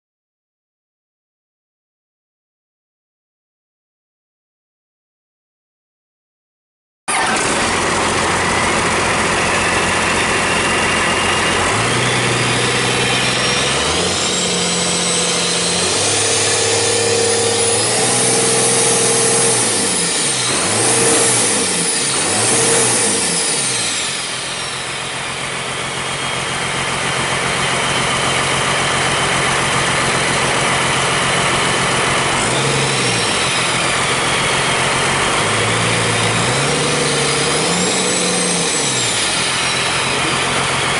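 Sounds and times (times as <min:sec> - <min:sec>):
diesel engine revving: 0:07.1 - 0:40.9.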